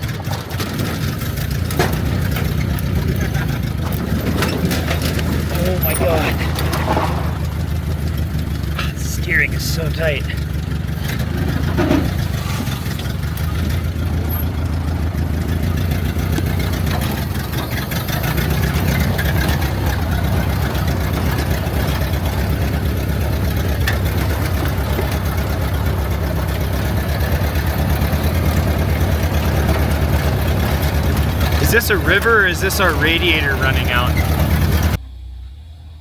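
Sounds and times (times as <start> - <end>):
car engine chugging: 0.0 - 36.0.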